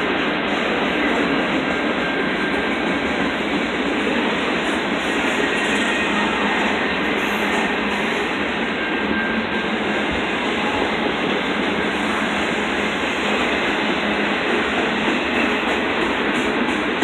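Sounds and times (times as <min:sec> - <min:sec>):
freight train wheels on rail: 0:00.0 - 0:17.0.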